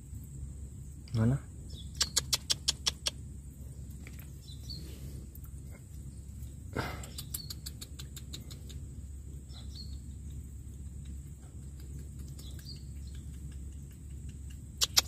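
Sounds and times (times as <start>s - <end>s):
faint bird or insect chirps: 0.0s - 15.0s.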